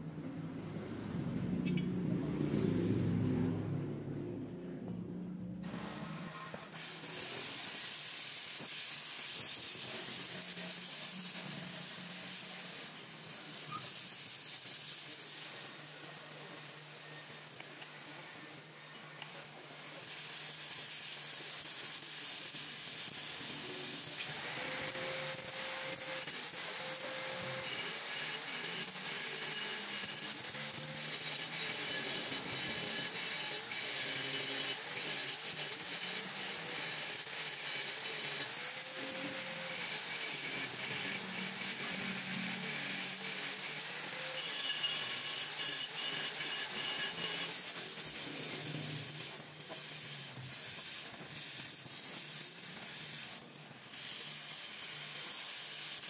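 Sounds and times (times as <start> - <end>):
welding torch flame hissing: 5.6 - 56.0.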